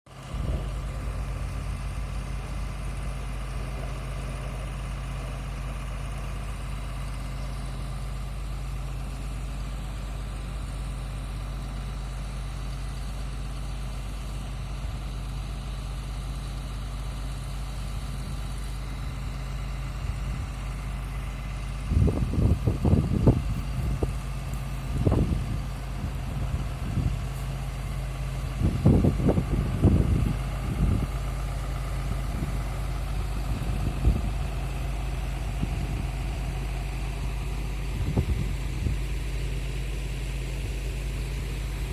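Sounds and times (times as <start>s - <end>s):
drilling rig engine idling: 0.1s - 41.9s.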